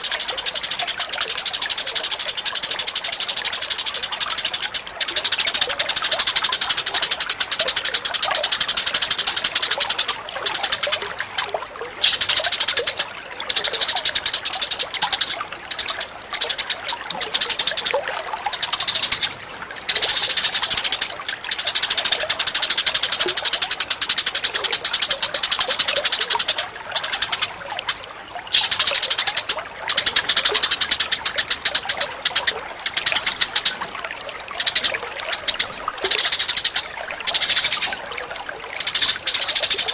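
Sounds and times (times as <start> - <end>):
rapid high-pitched bird chattering: 0.0 - 33.9, 34.5 - 38.0, 38.8 - 39.9.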